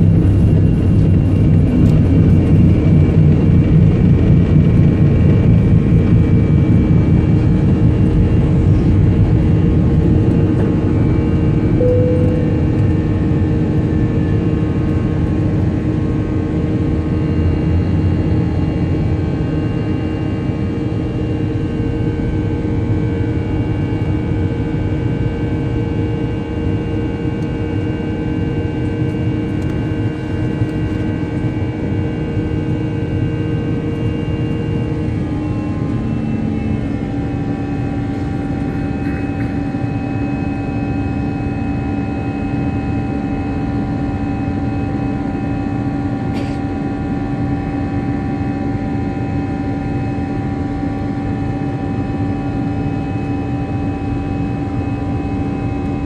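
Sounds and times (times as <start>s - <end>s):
jet engines at takeoff thrust: 0.0s - 56.0s.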